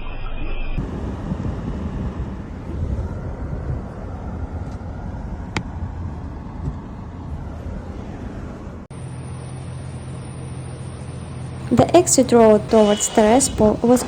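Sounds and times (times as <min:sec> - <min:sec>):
road traffic noise: 0:00.8 - 0:14.0
steady low hum: 0:00.8 - 0:14.0.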